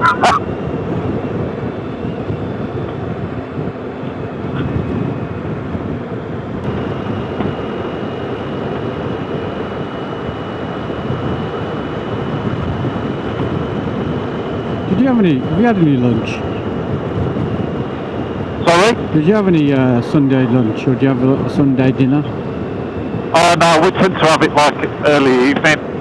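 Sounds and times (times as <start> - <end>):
wind buffeting helmet microphone: 0.0 - 26.0.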